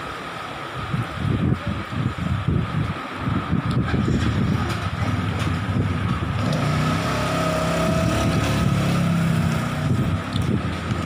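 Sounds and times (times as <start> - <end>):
vehicle engine rumbling: 0.8 - 11.0.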